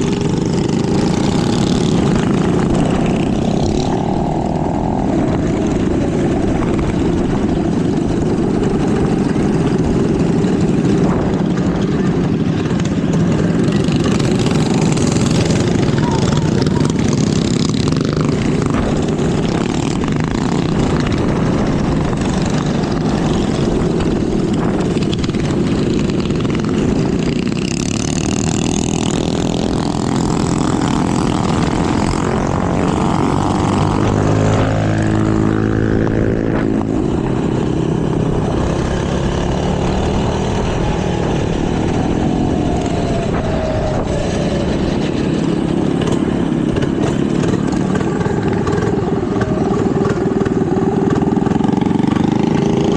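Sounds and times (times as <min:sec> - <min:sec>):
minibike engines running: 0:00.0 - 0:52.9.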